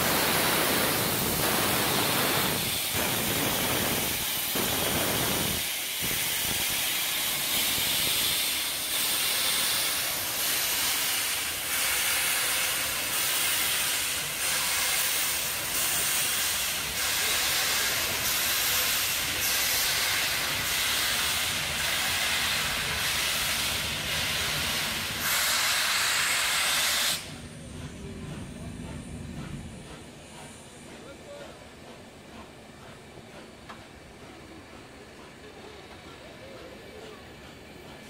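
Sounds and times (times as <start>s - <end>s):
steam locomotive hissing: 0.0s - 38.0s.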